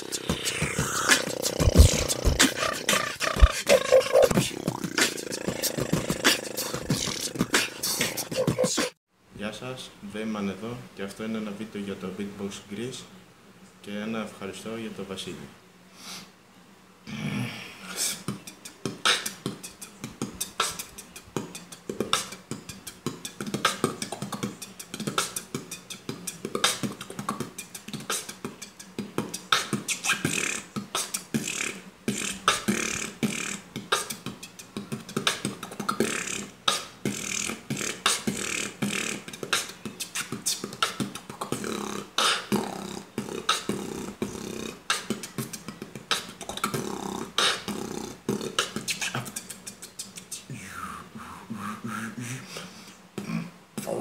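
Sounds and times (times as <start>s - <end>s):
person beatboxing: 0.0s - 9.0s, 17.2s - 54.0s.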